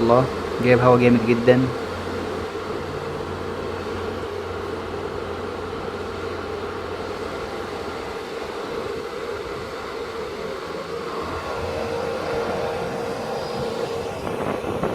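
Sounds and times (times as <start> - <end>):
small cooling fan whirring: 0.0 - 14.9.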